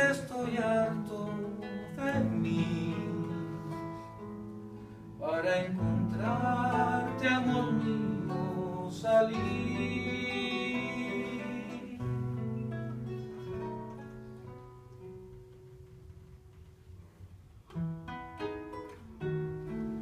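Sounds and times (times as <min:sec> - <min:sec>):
guitar playing: 0:00.0 - 0:20.0.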